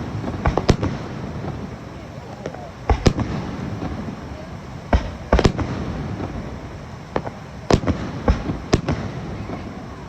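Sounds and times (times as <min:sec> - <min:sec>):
fireworks bursting with sharp bangs: 0:00.0 - 0:10.0.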